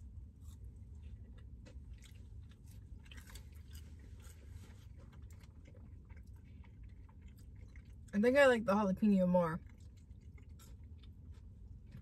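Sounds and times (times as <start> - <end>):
chewing crunchy fries: 0.0 - 8.7, 9.4 - 12.0
low steady hum: 0.0 - 12.0.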